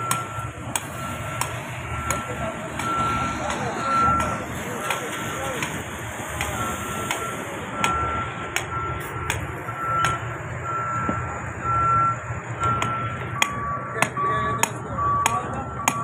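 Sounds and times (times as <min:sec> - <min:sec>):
low engine rumble: 0:00.0 - 0:16.0
reversing alarm beeping: 0:00.0 - 0:16.0.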